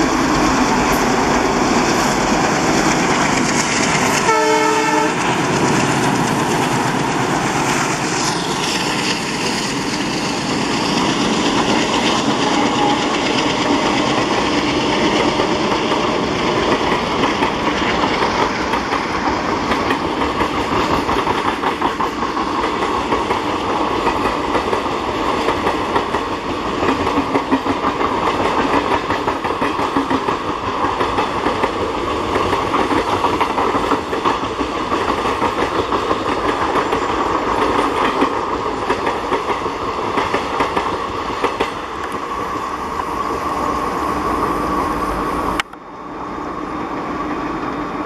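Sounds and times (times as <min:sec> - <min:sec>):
train wheels clattering on rails: 0:00.0 - 0:44.9
distant train rumble: 0:00.0 - 0:48.0.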